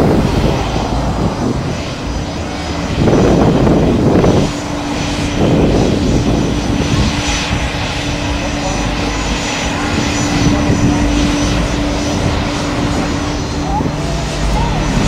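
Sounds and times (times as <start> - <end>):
airplane engine rumbling: 0.0 - 15.0
steady hum: 0.0 - 15.0.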